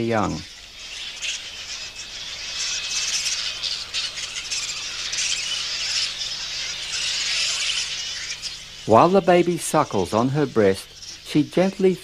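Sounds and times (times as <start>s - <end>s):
bats squawking and chattering: 0.0s - 12.0s.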